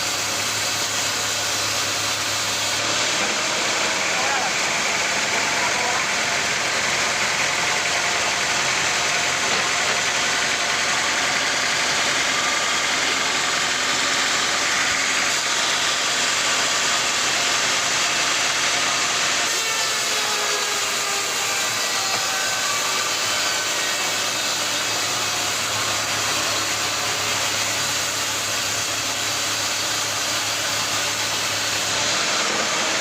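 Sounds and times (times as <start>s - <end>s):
sawmill machinery drone: 0.0s - 33.0s.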